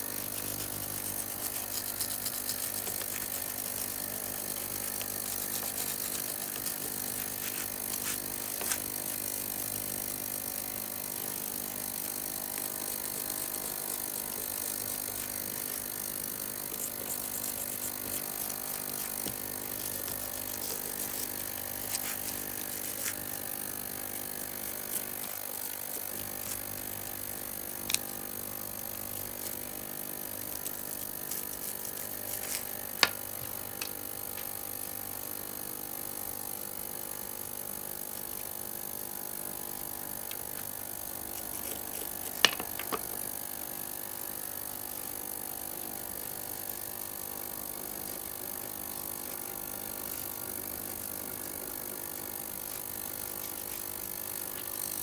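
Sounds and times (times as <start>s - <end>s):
faint background hum: 0.0s - 55.0s.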